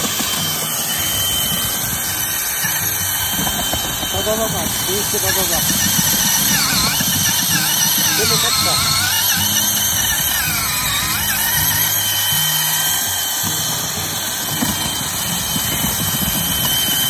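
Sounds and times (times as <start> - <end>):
cordless drill running under load: 0.0 - 17.0.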